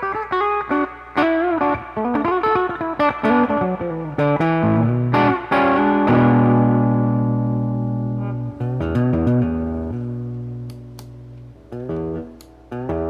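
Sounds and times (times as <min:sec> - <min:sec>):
electric guitar notes and bends: 0:00.0 - 0:13.0.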